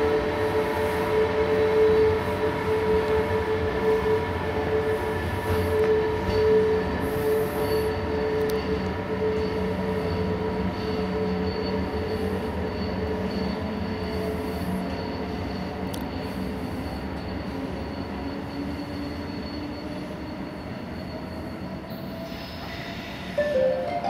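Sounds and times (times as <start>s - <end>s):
electric locomotive whine: 0.0s - 24.0s.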